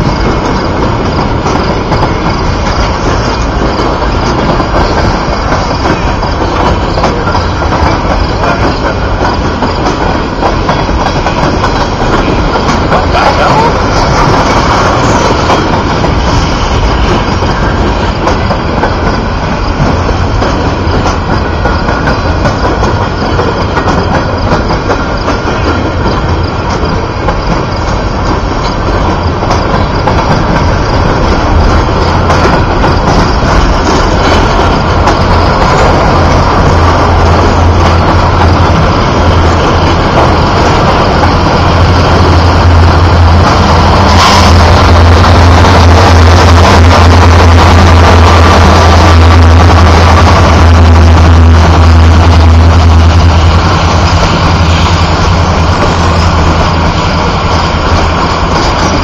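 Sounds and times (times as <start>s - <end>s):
diesel locomotive hum: 0.0s - 59.0s
train wheels on rails: 0.0s - 59.0s.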